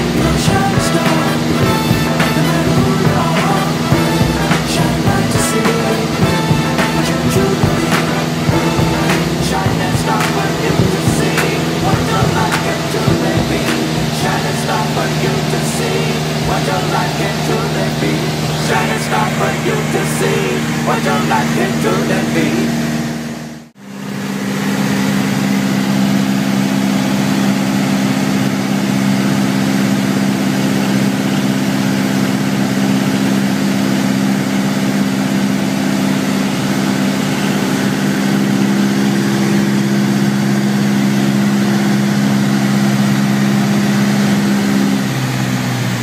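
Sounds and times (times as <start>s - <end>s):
aircraft engine droning: 0.0s - 46.0s.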